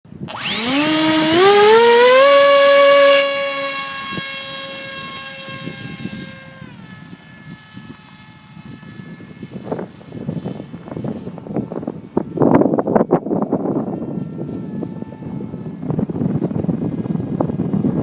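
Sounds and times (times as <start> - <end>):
electric motor propeller whine: 0.1 - 18.0.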